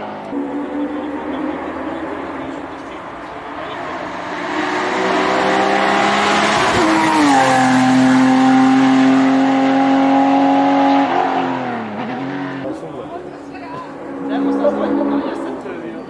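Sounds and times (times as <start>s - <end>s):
race car engine running hard: 0.0s - 16.0s.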